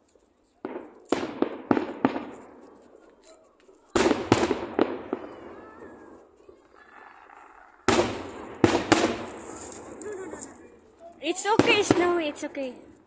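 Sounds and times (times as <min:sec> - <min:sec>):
fireworks bursting with echo: 0:00.6 - 0:06.8, 0:07.8 - 0:13.0.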